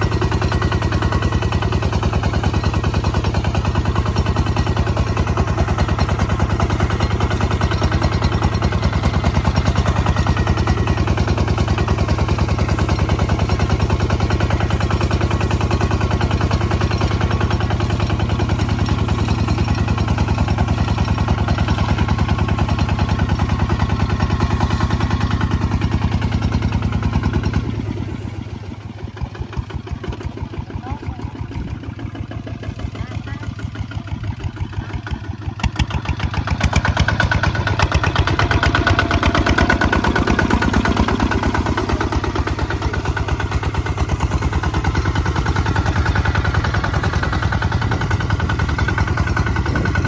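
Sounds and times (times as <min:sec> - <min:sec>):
diesel engine thudding: 0:00.0 - 0:50.0.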